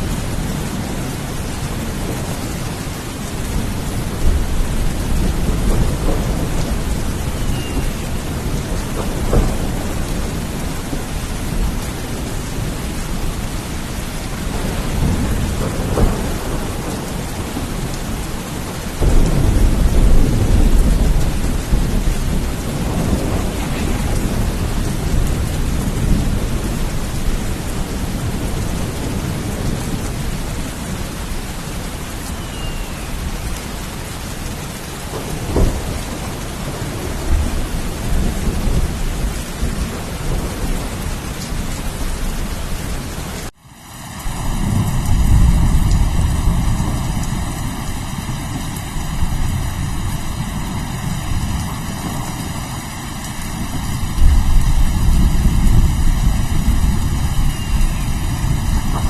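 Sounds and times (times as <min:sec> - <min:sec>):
rolling thunder: 0:00.0 - 0:42.9, 0:44.2 - 0:59.0
heavy rain: 0:00.0 - 0:59.0.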